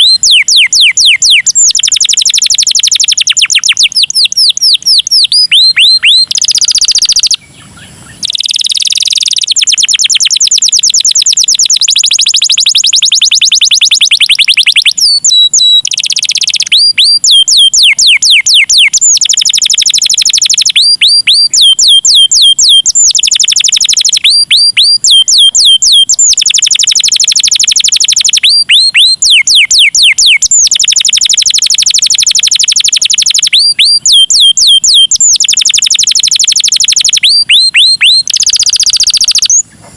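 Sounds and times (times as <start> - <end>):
canary singing: 0.0 - 39.8.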